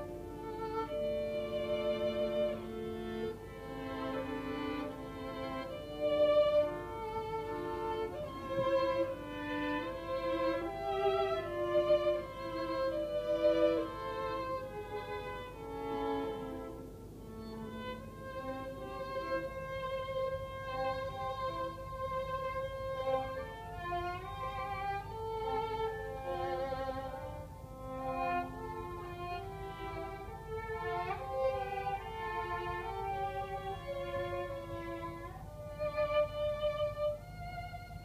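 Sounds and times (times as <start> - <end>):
bowed string instruments duet: 0.0 - 38.0.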